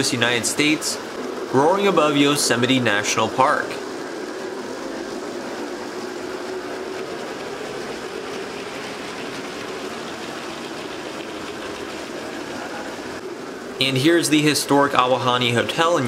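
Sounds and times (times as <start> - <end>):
model train humming on track: 0.0 - 16.0.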